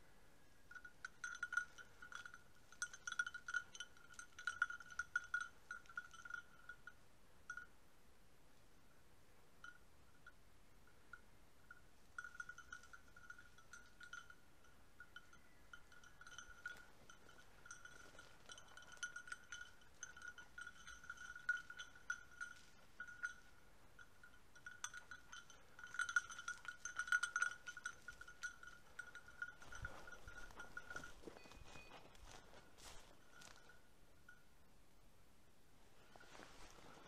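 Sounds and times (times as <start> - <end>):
dog bell jingling: 0.7 - 7.7, 11.6 - 34.4.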